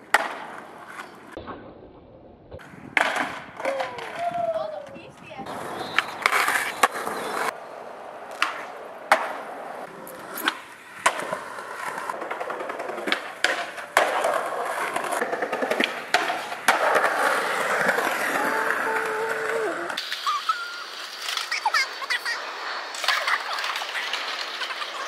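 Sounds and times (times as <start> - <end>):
skateboard popping and landing: 0.0 - 7.6, 8.2 - 20.3, 22.8 - 25.0
skateboard wheels rolling on pavement: 0.0 - 25.0.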